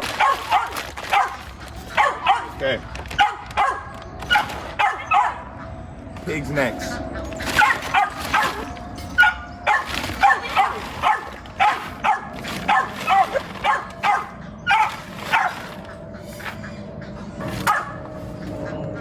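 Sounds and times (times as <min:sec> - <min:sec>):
dogs barking and yipping: 0:00.0 - 0:19.0.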